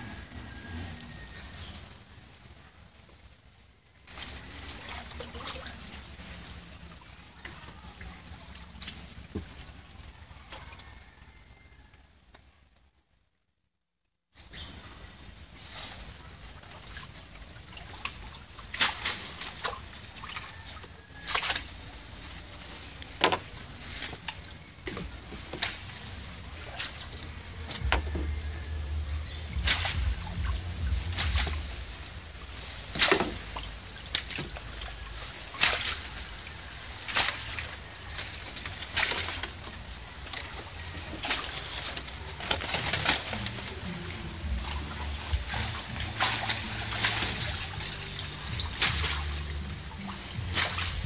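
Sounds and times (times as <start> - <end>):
muddy water splashing: 0.0 - 11.5, 14.4 - 51.0.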